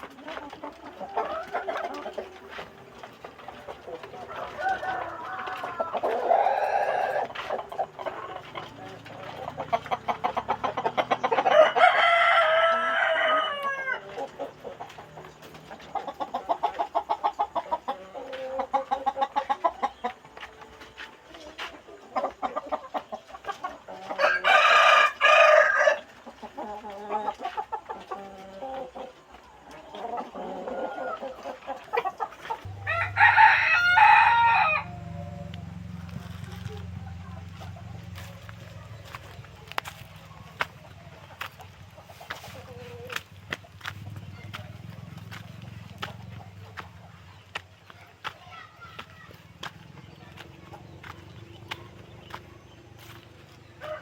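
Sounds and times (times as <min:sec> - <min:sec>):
chickens clucking: 0:00.0 - 0:54.0
roosters crowing: 0:00.0 - 0:54.0.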